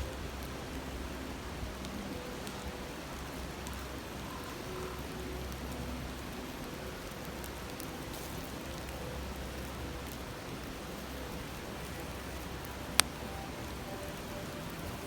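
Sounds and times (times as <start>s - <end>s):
campfire crackles: 0.0s - 15.0s
river rushing and babbling: 0.0s - 15.0s.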